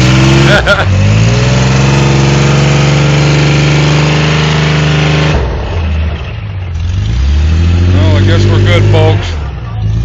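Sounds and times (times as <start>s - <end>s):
engine revving hard: 0.0s - 10.0s.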